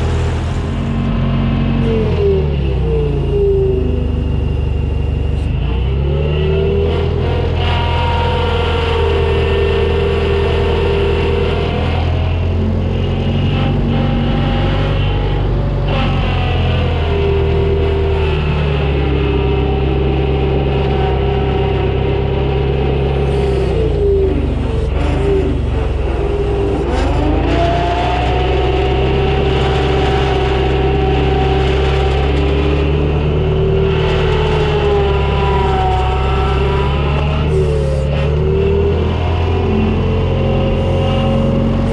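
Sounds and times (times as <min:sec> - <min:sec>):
diesel engine running: 0:00.0 - 0:41.9
whining tone: 0:00.0 - 0:41.9.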